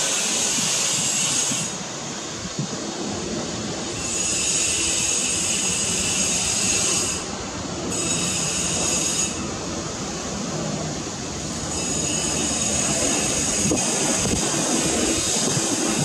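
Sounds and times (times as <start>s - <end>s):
jet engine high hiss: 0.0s - 16.0s
jet engines low rumble: 0.0s - 16.0s.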